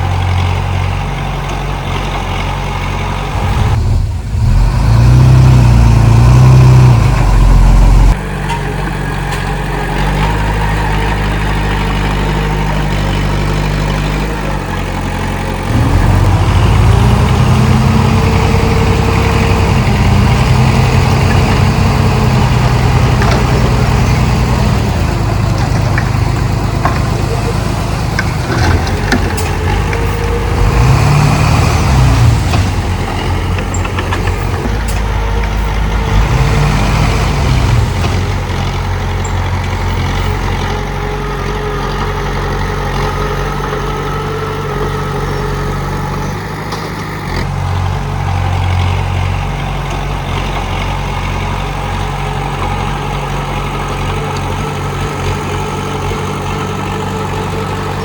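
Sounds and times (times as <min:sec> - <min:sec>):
bulldozer diesel engine revving: 0:00.0 - 0:58.0.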